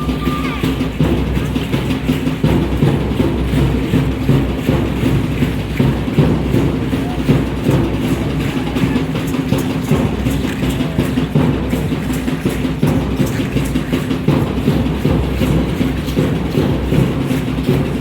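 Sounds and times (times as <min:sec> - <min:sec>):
drumming and dance music: 0:00.0 - 0:18.0.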